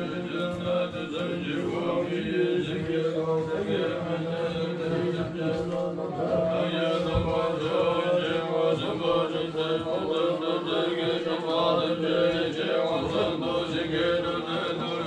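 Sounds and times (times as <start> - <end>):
monks chanting in low drone: 0.0 - 15.0.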